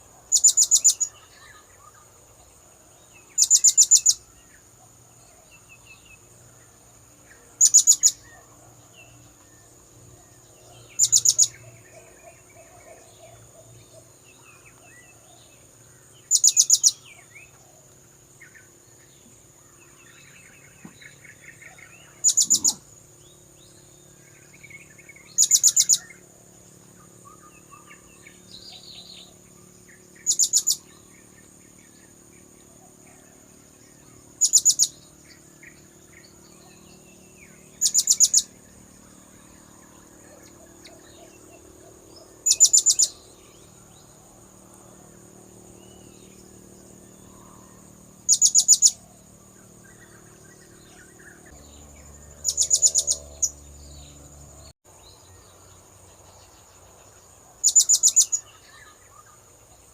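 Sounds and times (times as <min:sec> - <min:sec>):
faint background birds: 0:00.0 - 0:59.9
insects: 0:00.0 - 0:59.9.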